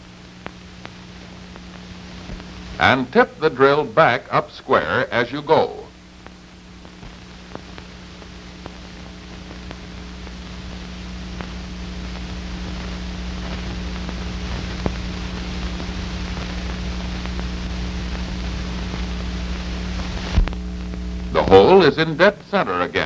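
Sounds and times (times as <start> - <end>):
film soundtrack hiss and hum: 0.0 - 23.0.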